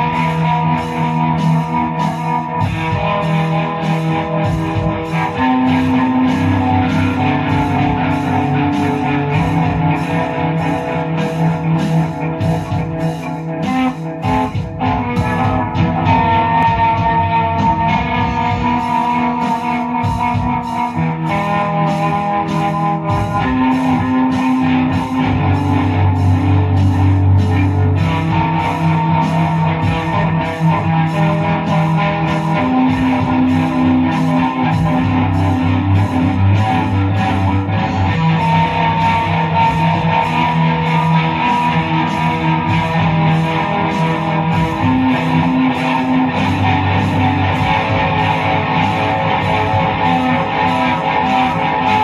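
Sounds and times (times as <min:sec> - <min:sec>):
electric guitar rock instrumental: 0:00.0 - 0:52.0
steady drum beat: 0:00.0 - 0:52.0.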